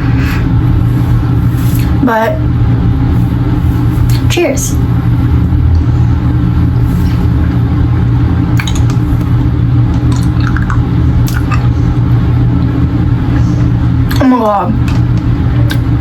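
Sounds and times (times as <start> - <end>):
steady low drone: 0.0 - 16.0.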